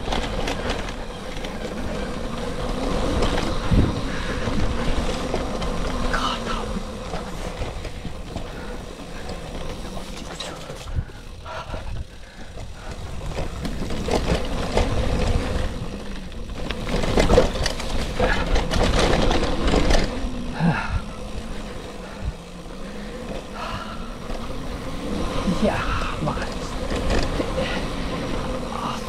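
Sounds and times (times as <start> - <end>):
bike rattling: 0.0 - 29.0
bike tyres crunching on gravel: 0.0 - 29.0.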